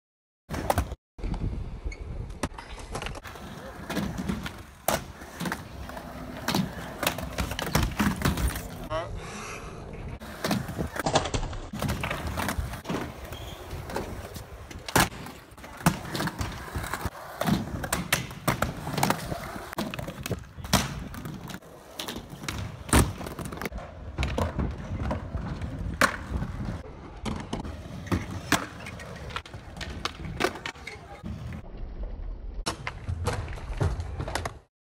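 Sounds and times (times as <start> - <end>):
skateboard wheels rolling on concrete: 0.5 - 34.7.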